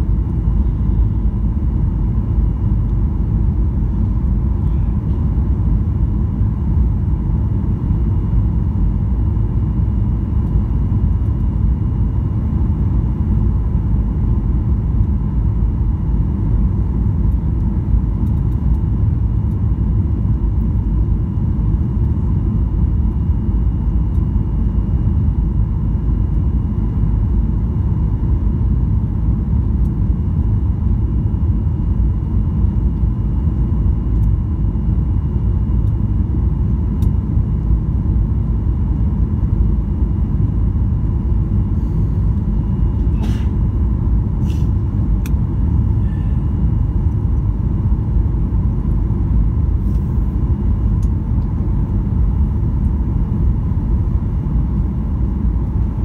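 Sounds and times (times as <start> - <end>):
airplane cabin rumble: 0.0 - 56.0
faint steady whine: 0.0 - 56.0.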